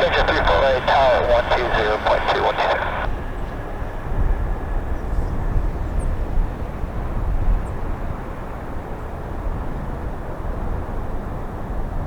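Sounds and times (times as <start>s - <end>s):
jet engines rumbling: 0.0s - 11.6s.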